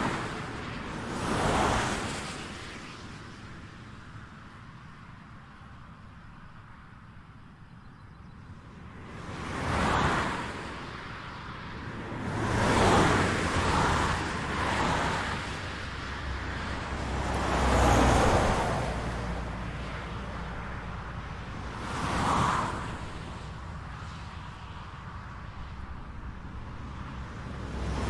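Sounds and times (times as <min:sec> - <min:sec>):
vehicles passing on highway: 0:00.0 - 0:28.0.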